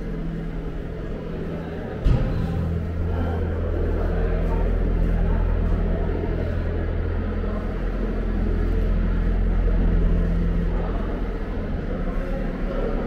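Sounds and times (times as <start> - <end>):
indoor hall low rumble: 0.0 - 13.0.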